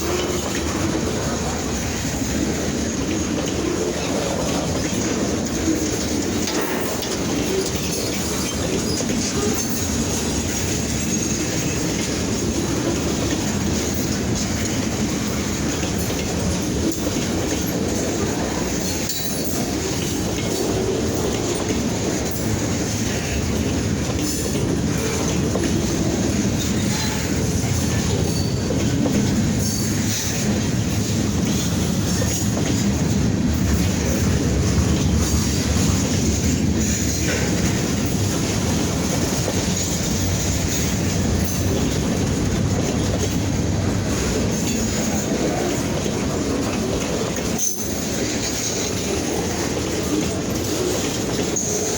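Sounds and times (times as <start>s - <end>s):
clicking from rail joints: 0.0s - 51.9s
train wheels rumbling on track: 0.0s - 51.9s.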